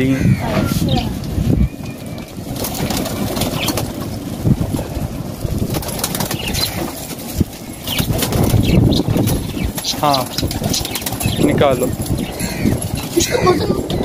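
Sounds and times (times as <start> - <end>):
pigeons flapping wings: 1.2 - 14.0.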